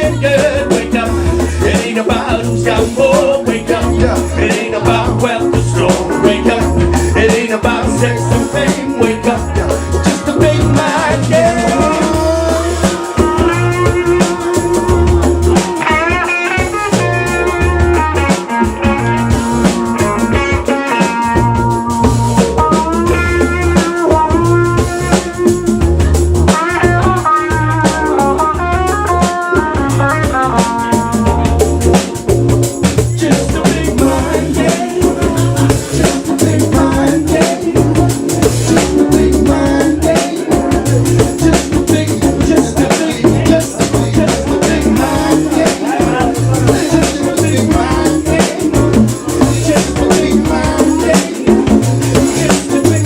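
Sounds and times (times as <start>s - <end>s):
electric guitar melody: 0.0s - 53.0s
live band playing: 0.0s - 53.0s.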